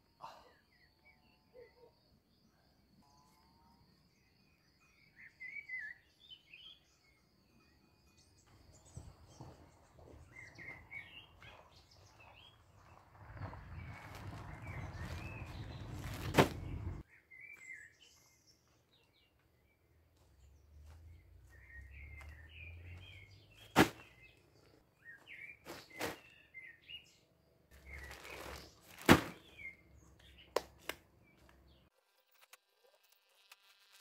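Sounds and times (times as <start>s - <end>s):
small birds chirping: 4.2s - 31.9s.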